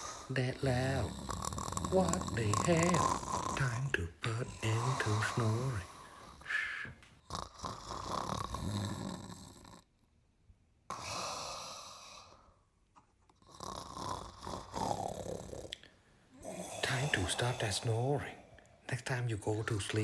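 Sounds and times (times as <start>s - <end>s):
man snoring: 0.0s - 9.9s, 10.9s - 12.4s, 13.4s - 18.7s.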